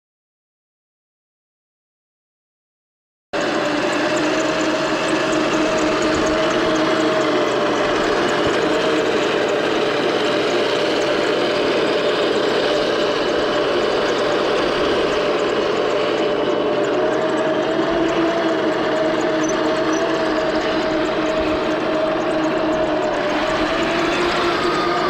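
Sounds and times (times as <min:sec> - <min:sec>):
toy tank mechanical whine: 0:03.4 - 0:25.0.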